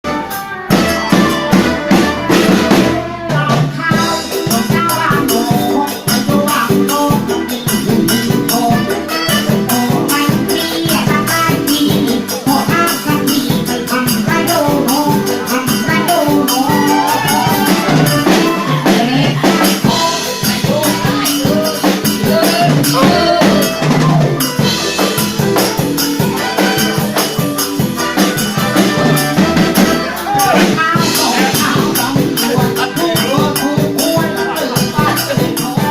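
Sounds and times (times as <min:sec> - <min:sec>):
drums: 0:00.0 - 0:35.9.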